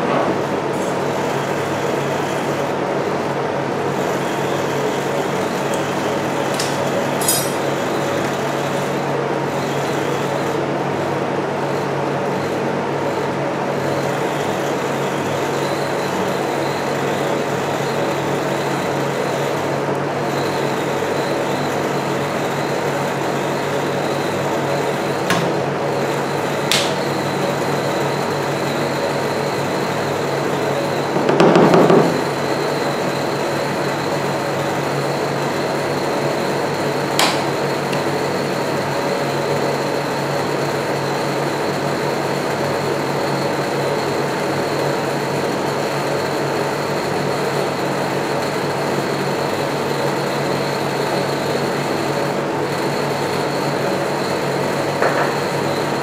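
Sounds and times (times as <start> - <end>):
ice cream machine humming: 0.0 - 56.0.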